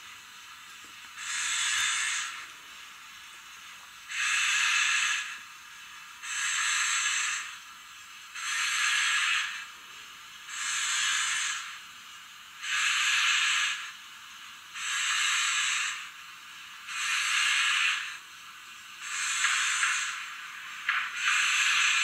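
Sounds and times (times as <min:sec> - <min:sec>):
model steam locomotive chuffs: 0:00.0 - 0:00.5, 0:01.2 - 0:02.6, 0:04.0 - 0:22.0.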